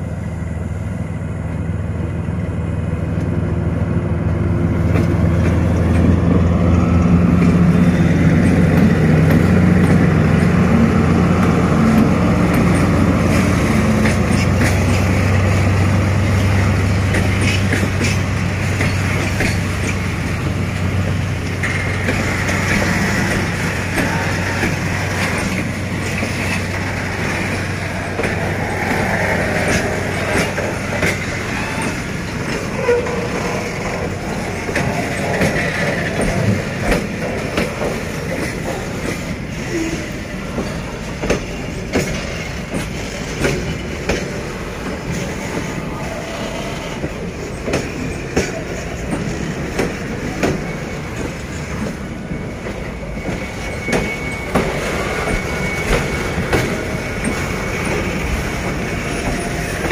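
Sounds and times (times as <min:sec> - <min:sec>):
continuous train rolling noise: 0:00.0 - 0:59.9
wheels clickety-clack over rail joints: 0:03.1 - 0:59.9.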